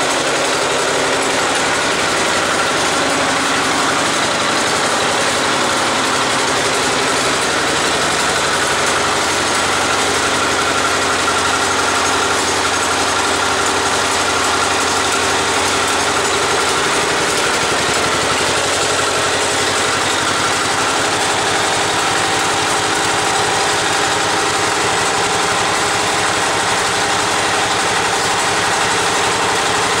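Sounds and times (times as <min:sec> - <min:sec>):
diesel tractor engine idling: 0:00.0 - 0:30.0.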